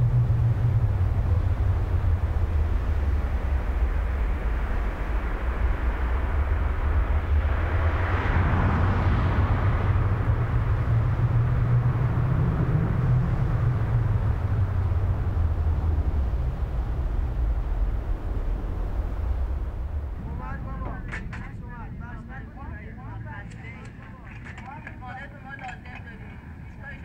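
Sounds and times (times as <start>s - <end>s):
low ambient rumble: 0.0s - 27.0s.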